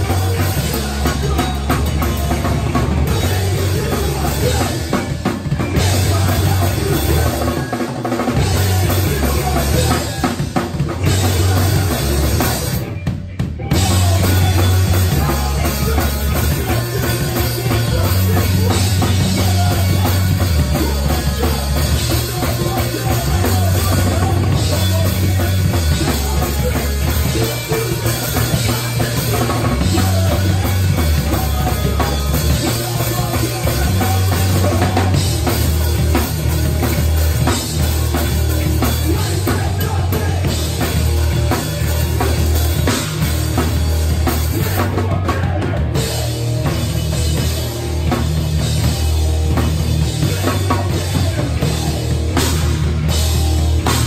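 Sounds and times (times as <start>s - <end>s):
drums: 0.0s - 54.0s
electric bass: 0.0s - 54.0s
electric guitar: 0.0s - 54.0s.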